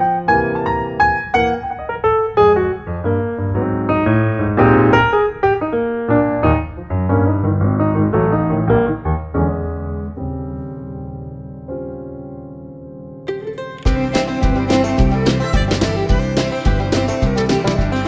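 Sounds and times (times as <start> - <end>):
piano notes: 0.0 - 18.0.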